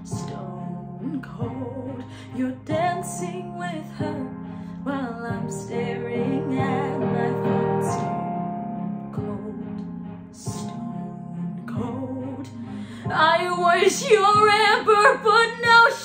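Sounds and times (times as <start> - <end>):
woman singing pop ballad: 0.0 - 8.2, 9.2 - 16.0
held instrumental chords: 0.0 - 16.0.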